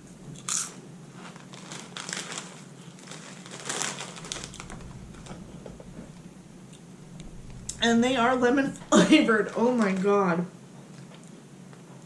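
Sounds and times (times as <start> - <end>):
plastic chip bag crinkling: 0.2 - 6.2, 7.2 - 11.3.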